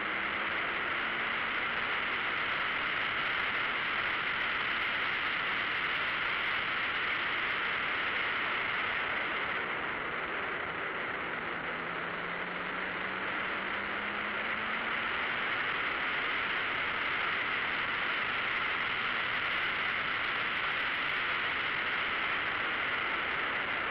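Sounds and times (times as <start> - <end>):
wind and road noise: 0.0 - 23.9.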